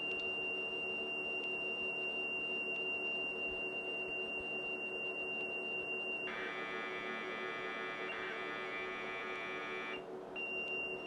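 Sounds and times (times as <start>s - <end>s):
cassette data signal: 0.0s - 11.0s.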